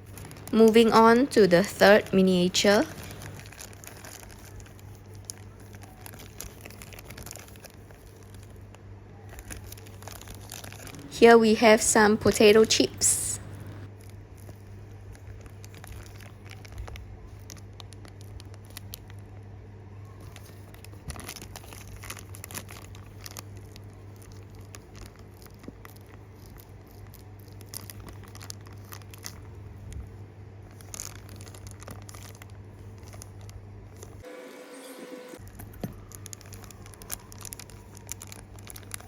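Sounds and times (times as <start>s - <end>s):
plastic packaging crinkling: 0.0s - 19.4s, 20.1s - 34.2s, 35.4s - 39.0s
low steady hum: 0.0s - 39.0s.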